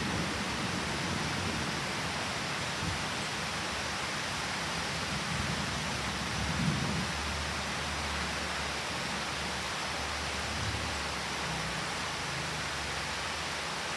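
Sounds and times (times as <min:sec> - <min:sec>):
heavy rain: 0:00.0 - 0:13.9.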